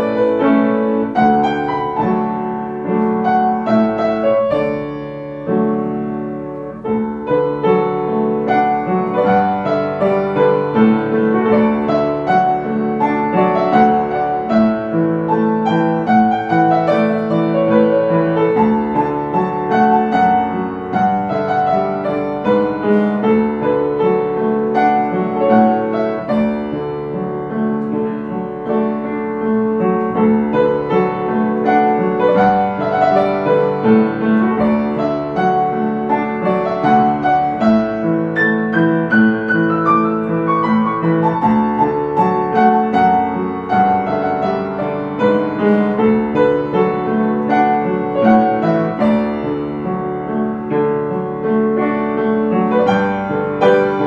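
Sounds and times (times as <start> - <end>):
piano playing slow melody: 0.0 - 54.0.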